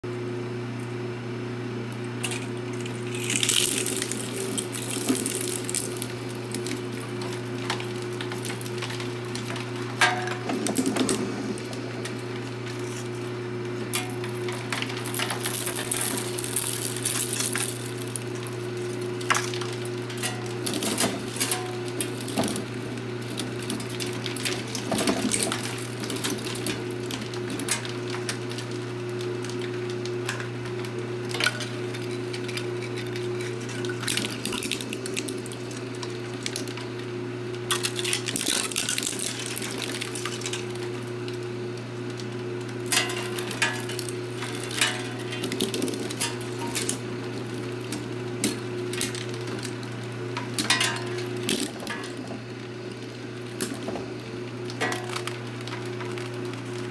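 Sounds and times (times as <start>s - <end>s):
shredder motor humming: 0.0s - 56.9s
plastic crunching and snapping: 2.2s - 56.9s.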